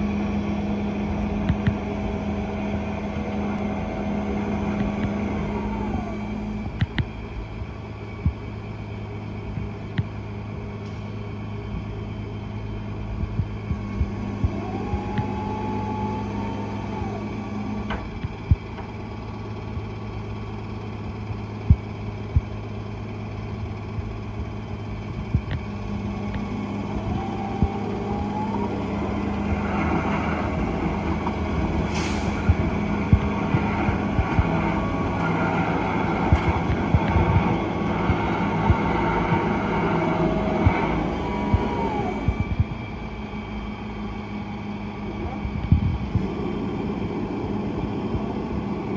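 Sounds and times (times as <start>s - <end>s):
truck engine running: 0.0s - 48.9s
winch whine: 0.0s - 48.9s.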